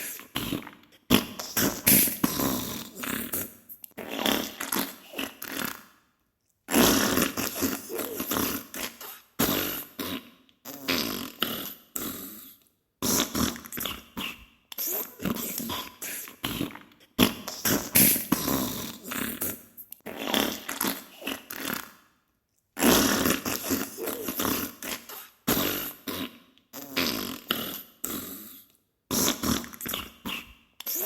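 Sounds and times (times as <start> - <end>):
wet crackly fart: 0.0 - 5.9, 6.7 - 12.2, 13.0 - 22.0, 22.8 - 28.3, 29.1 - 31.0.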